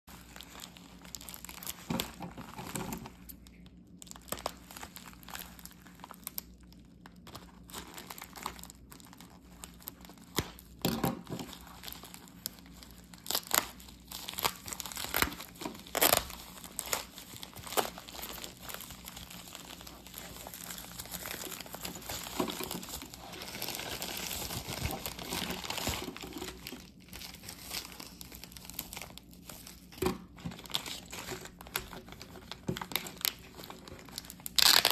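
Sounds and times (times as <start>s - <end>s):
plastic mailer crinkling: 0.1s - 34.9s
plastic tearing: 0.1s - 34.9s.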